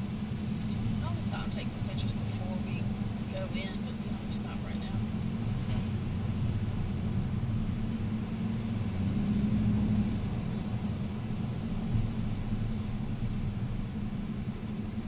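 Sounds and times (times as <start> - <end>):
vehicle cabin rumble: 0.0 - 15.0.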